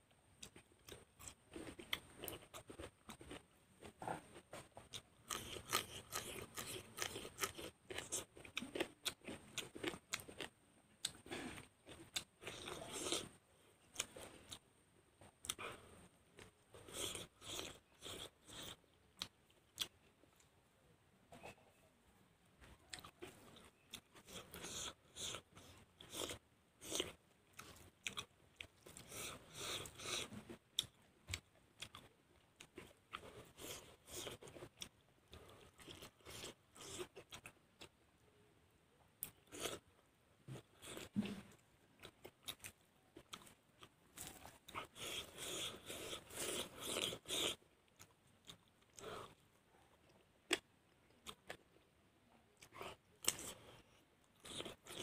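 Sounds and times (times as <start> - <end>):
man chewing and crunching food: 0.3 - 20.6, 22.6 - 38.2, 38.8 - 55.0.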